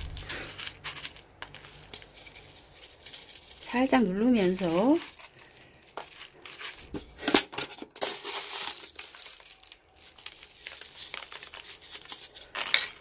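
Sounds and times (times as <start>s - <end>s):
bubble wrap crackling: 0.0s - 13.0s.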